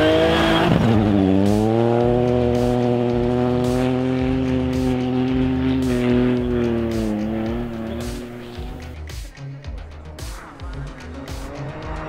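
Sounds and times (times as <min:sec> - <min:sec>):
rally car engine passing by: 0:00.0 - 0:09.0, 0:10.4 - 0:12.0.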